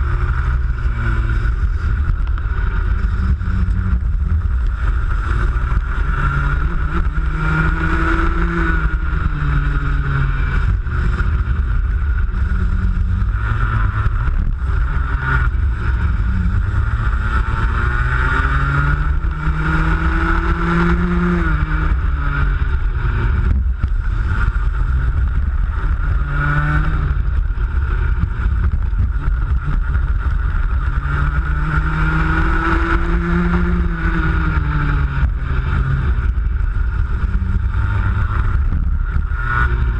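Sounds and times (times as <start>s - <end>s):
heavy low rumble: 0.0s - 39.9s
kart engine revving: 0.0s - 39.9s.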